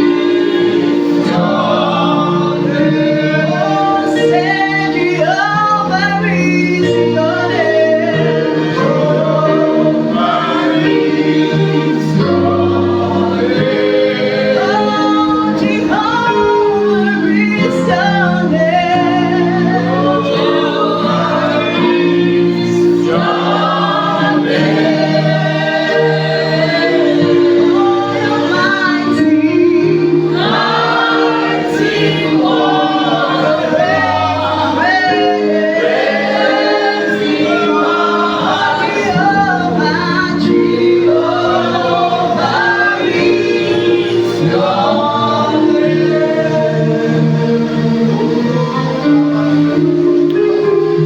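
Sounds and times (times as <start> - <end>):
group singing gospel song: 0.0 - 51.0
held accompaniment chords: 0.0 - 51.0.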